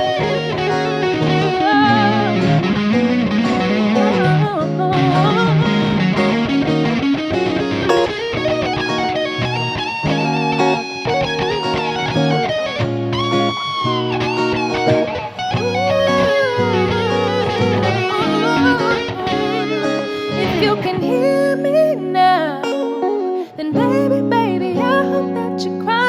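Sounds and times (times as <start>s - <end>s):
held chords and bass: 0.0s - 20.9s
electric guitar lead: 0.0s - 26.0s.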